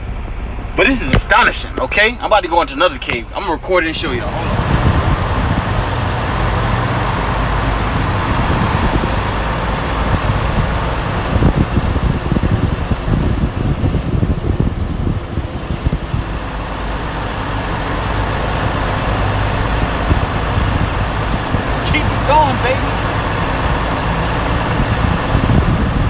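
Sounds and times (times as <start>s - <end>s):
road noise: 0.0s - 26.0s
truck diesel engine driving: 0.0s - 26.0s.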